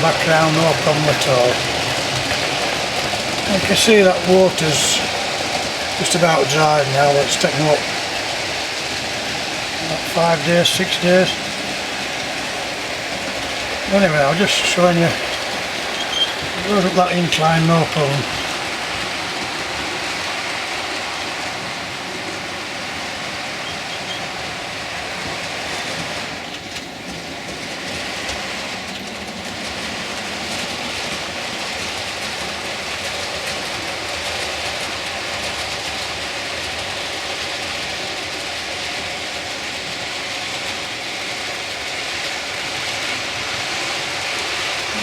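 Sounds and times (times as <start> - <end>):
model train wheels clattering: 0.0 - 45.0.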